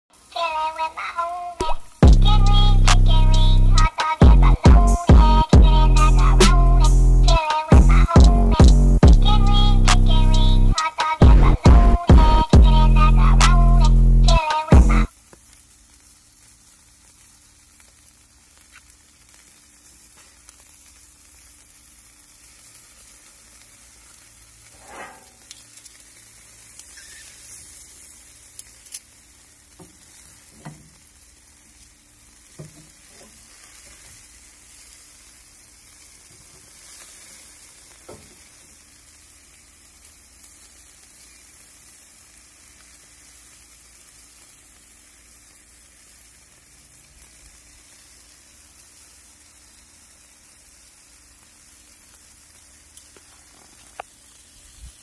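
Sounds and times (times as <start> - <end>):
meat sizzling on a grill: 0.1 - 55.0.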